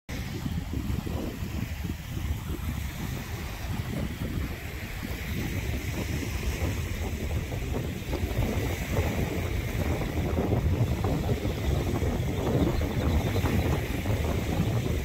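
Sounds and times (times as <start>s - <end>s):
small waves washing onto shore: 0.1s - 15.0s
wind buffeting microphone: 0.1s - 15.0s.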